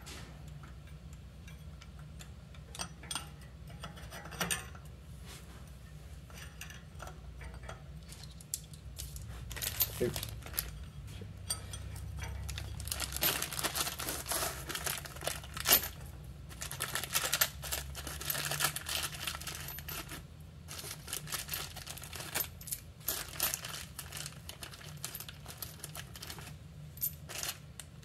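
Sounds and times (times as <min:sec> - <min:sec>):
light metal clinks and scrapes: 0:00.0 - 0:27.9.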